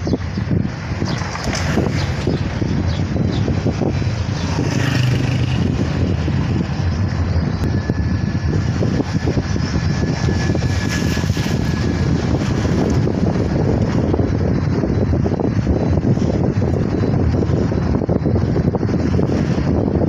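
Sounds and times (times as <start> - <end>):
road and engine noise rumble: 0.0 - 20.0
wind buffeting: 0.0 - 20.0.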